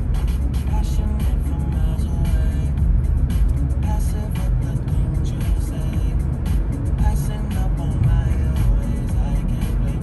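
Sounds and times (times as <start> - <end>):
music on car radio: 0.0 - 10.0
road and engine rumble: 0.0 - 10.0.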